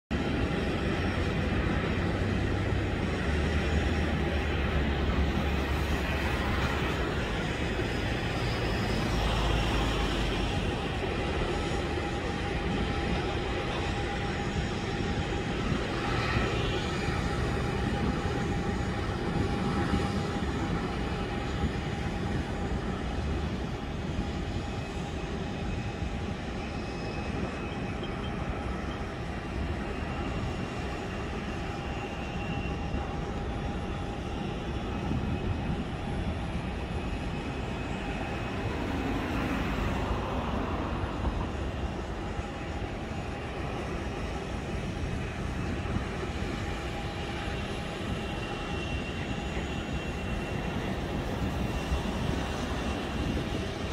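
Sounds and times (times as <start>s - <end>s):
aircraft engines rumbling: 0.0s - 53.9s.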